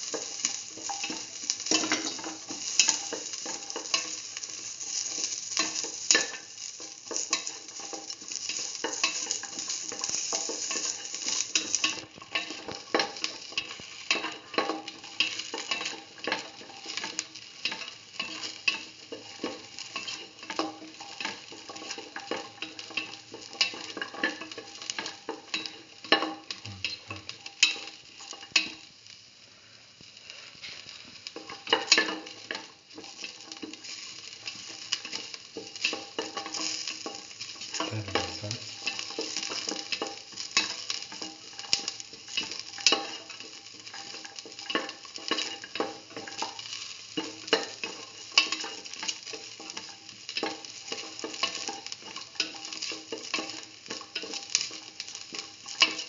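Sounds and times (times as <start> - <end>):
spoon clicking and scraping pan: 0.0 - 28.8, 31.4 - 37.9, 38.6 - 56.0
onions sizzling in hot oil: 0.0 - 56.0.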